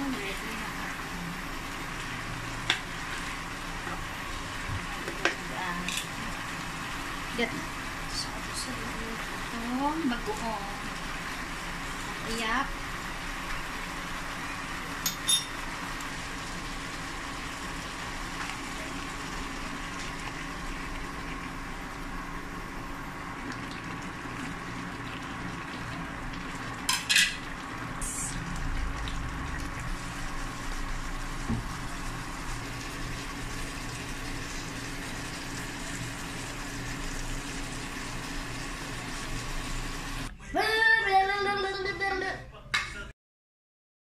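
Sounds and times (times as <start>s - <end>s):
meat sizzling in a pan: 0.0s - 40.3s
steady hum: 0.0s - 40.6s.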